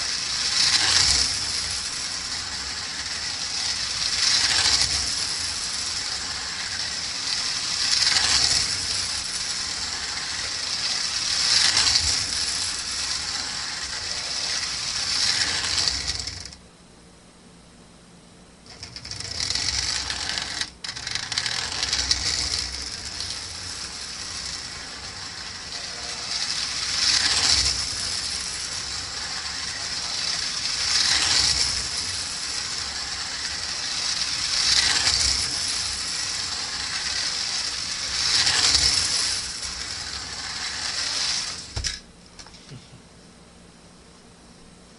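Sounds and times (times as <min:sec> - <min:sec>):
toy train motor whirring: 0:00.0 - 0:16.6, 0:18.7 - 0:42.6
toy train wheels clattering: 0:00.0 - 0:16.6, 0:18.7 - 0:42.5.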